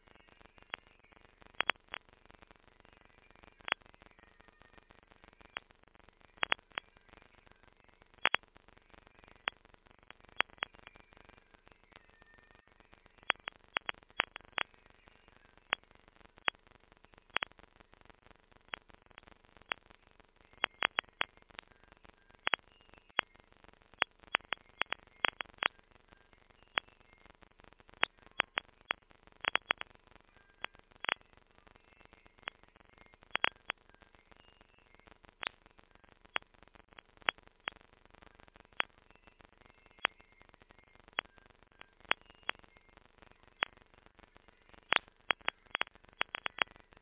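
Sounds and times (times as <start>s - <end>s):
faint broken tones: 0.0s - 47.0s
faint crackle: 0.0s - 47.0s
digital clicks and pops: 0.3s - 7.4s, 8.1s - 30.0s, 30.6s - 31.4s, 32.0s - 47.0s.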